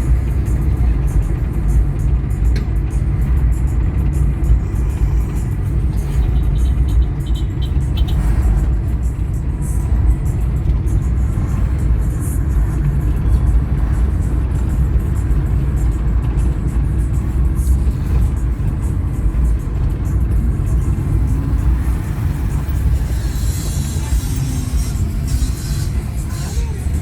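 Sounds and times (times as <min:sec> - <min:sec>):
music playing: 0:00.0 - 0:27.0
vehicle engine and road noise: 0:00.0 - 0:27.0.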